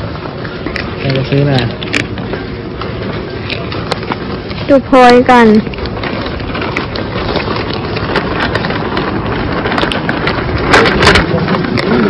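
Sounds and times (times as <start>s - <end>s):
supermarket noise: 0.0s - 12.0s
loud clatter: 1.1s - 12.0s.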